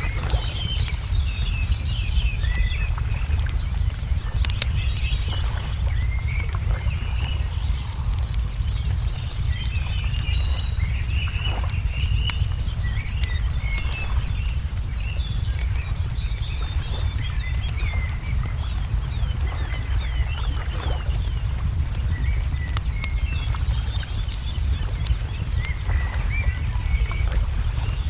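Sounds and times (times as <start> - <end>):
low rumble: 0.0 - 28.0
songbirds chirping: 0.0 - 28.0
wood fire crackling and popping: 0.0 - 28.0.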